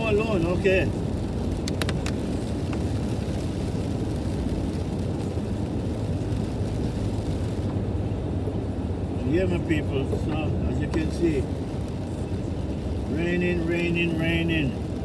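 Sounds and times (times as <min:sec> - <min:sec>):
car rumbling on wet road: 0:00.0 - 0:15.0.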